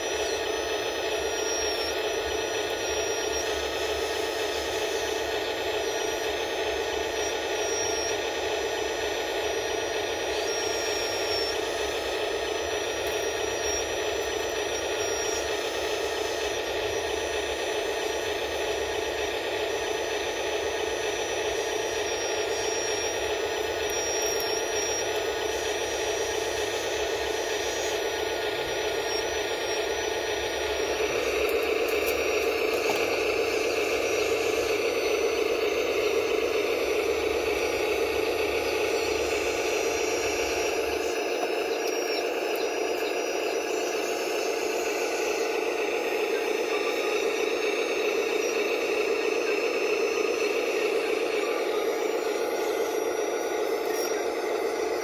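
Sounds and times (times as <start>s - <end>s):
hydraulic pump whirring: 0.0s - 55.0s.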